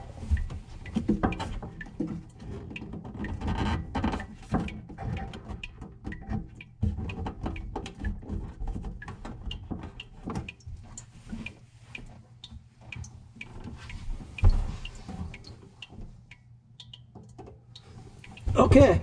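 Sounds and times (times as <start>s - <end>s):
clicks and taps at kitchen sink: 0.3s - 19.0s.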